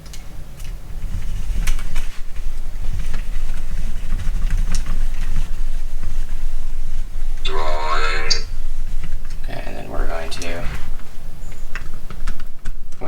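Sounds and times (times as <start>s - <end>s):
low rumbling handling noise: 0.0s - 13.0s.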